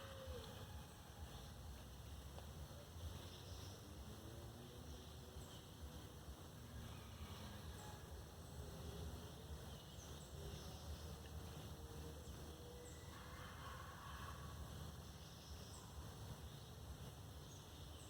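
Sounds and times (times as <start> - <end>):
low forest rumble: 0.0 - 18.0.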